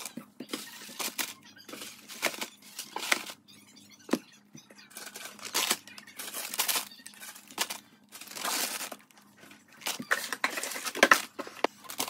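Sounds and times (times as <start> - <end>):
plastic wrappers crinkling: 0.0 - 3.4, 4.8 - 12.0.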